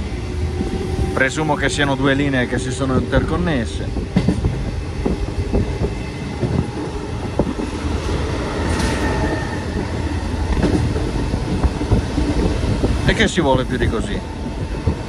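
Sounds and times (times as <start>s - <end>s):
train coach rumble and air rush: 0.0s - 15.0s.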